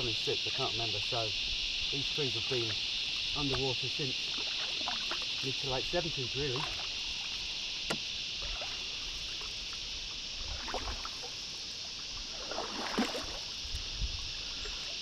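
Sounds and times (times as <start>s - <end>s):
high insect chorus: 0.0s - 15.0s
paddle strokes swishing through water: 1.8s - 15.0s.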